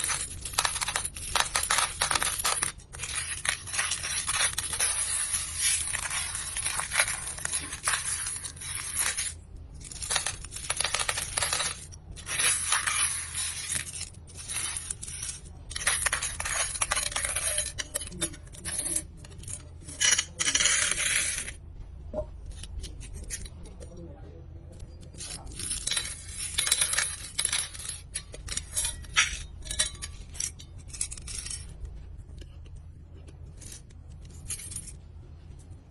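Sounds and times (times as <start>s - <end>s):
metal coins pouring and clinking: 0.0s - 21.6s, 25.2s - 31.8s, 33.5s - 35.0s.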